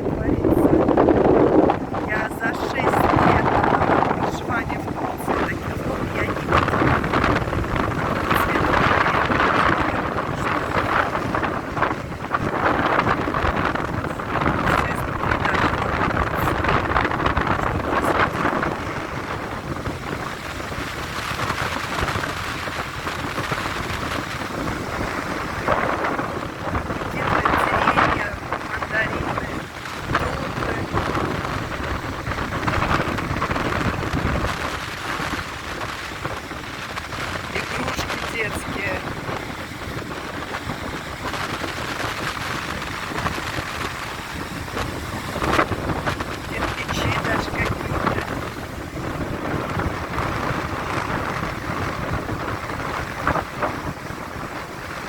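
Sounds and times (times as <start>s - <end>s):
stormy sea surf: 0.0s - 55.0s
wind buffeting microphone: 0.0s - 55.0s.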